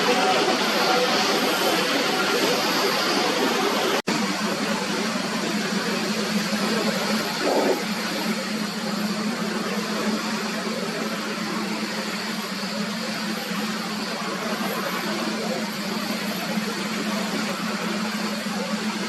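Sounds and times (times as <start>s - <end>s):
jet engines droning: 0.0s - 19.0s.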